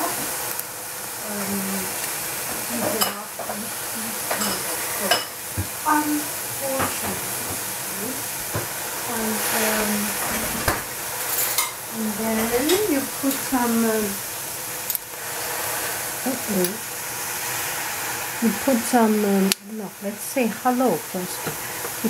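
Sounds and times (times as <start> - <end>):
pot of food sizzling: 0.0 - 22.0.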